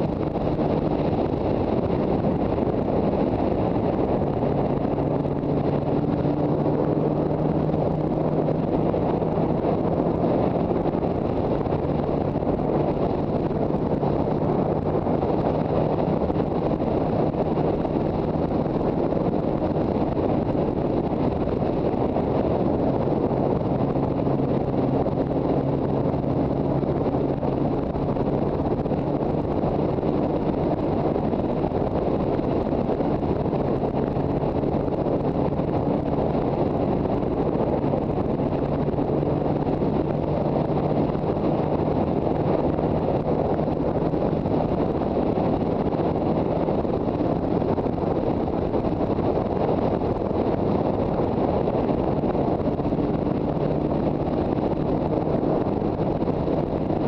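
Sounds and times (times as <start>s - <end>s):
motorcycle engine cruising: 0.0s - 57.0s
wind buffeting microphone: 0.0s - 57.0s.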